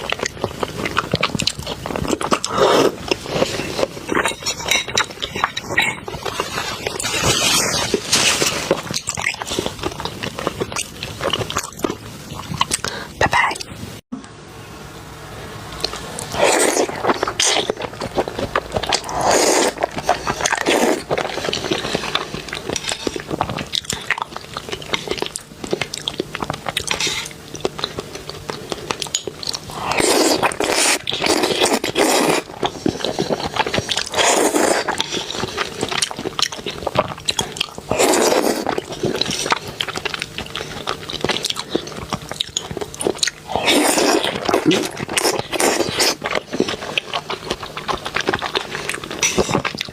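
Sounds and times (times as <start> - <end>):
chewing and crunching food: 0.0 - 13.8, 15.8 - 49.9.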